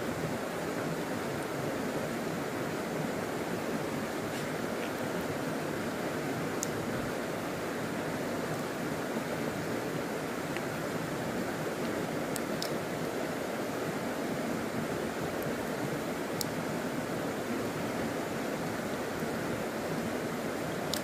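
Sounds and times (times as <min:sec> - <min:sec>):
river flowing over stones: 0:00.0 - 0:21.0.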